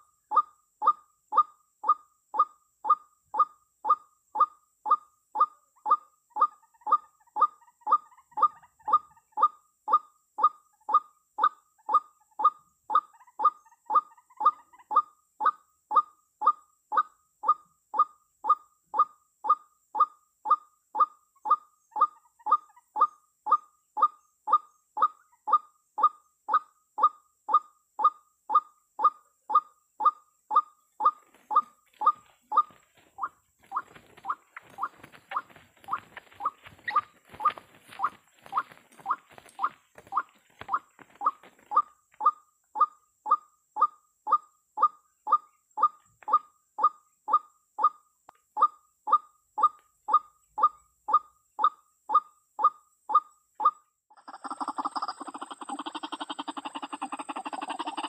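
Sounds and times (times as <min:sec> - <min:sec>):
waterhen call repeating: 0:00.0 - 0:48.0, 0:48.6 - 0:58.0.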